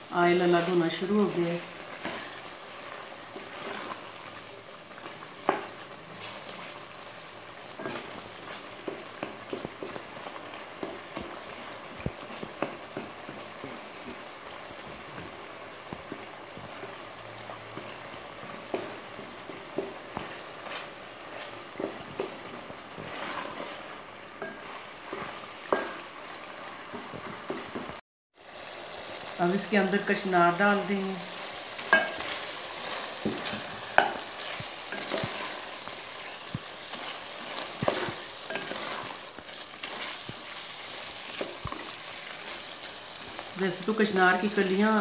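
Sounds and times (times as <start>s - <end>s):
food sizzling in a pot: 0.0s - 45.0s
wooden spatula scraping a pot: 0.3s - 7.0s, 7.6s - 27.9s, 31.8s - 43.4s.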